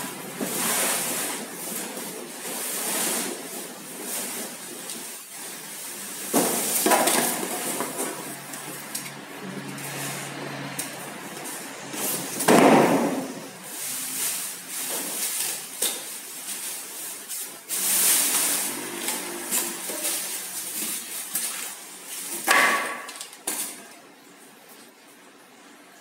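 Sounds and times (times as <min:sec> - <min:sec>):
plastic bag rustling: 0:00.0 - 0:08.9, 0:11.5 - 0:24.0.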